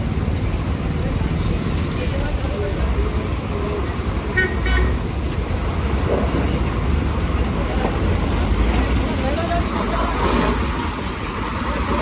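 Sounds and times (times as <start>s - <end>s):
heavy truck engine rumbling: 0.0s - 12.0s.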